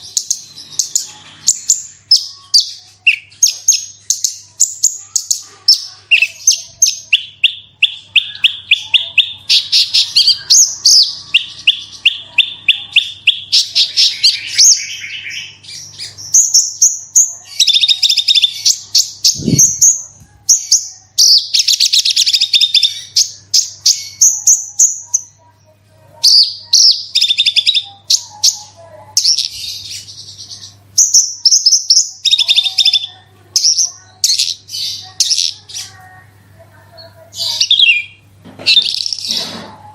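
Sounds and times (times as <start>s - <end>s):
bird singing rapid trills: 0.0s - 25.5s, 26.2s - 36.2s.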